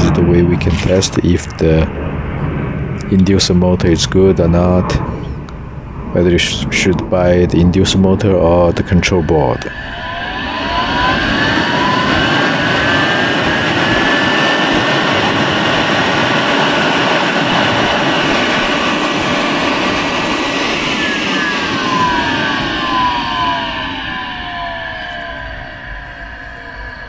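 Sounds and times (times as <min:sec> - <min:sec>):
blower motor whine and air rush: 0:00.0 - 0:03.5, 0:04.2 - 0:27.0.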